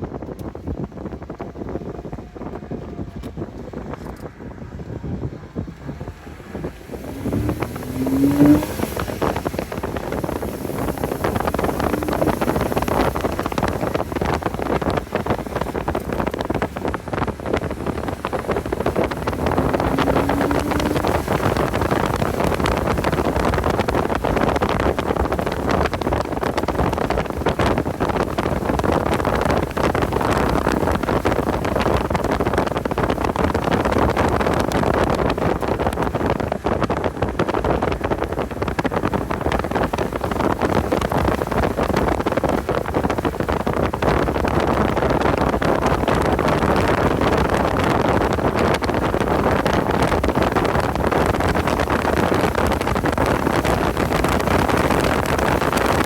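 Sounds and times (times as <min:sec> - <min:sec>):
car engine running under load: 0:00.0 - 0:56.0
wind buffeting on microphone: 0:00.0 - 0:56.0.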